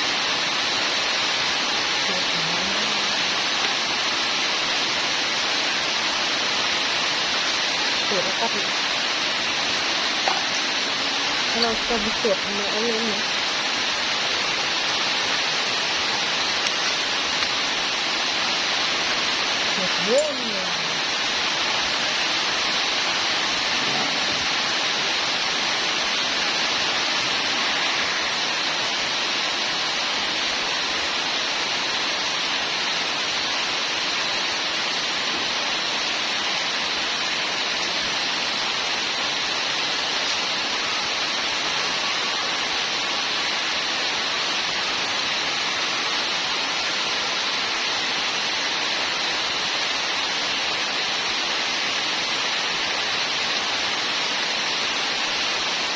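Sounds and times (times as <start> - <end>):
steady hiss: 0.0 - 55.9.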